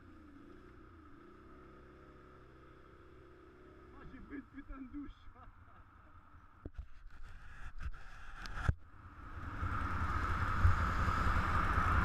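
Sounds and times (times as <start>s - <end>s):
off-road vehicle engine: 0.0s - 12.0s.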